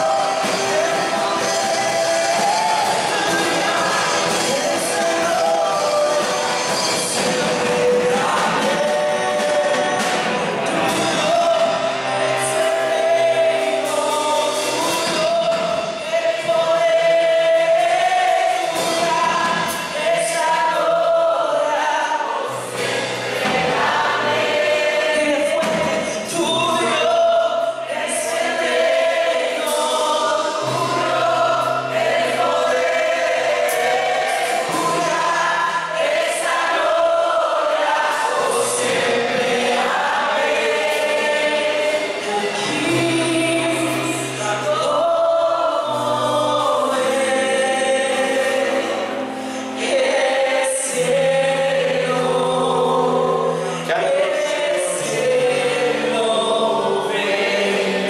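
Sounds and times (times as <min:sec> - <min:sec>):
band playing worship music: 0:00.0 - 0:58.0
voices singing together: 0:00.0 - 0:58.0.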